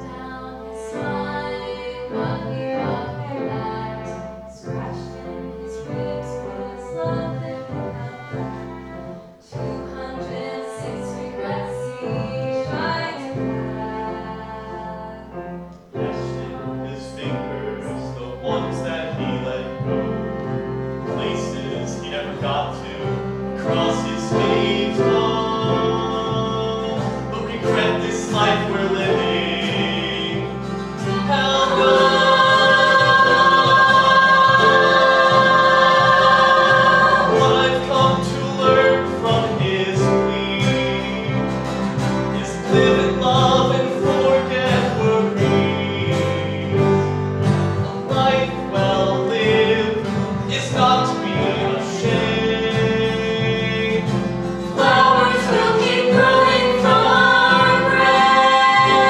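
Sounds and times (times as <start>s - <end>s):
instrumental accompaniment: 0.0s - 59.0s
voices singing in harmony: 0.0s - 59.0s.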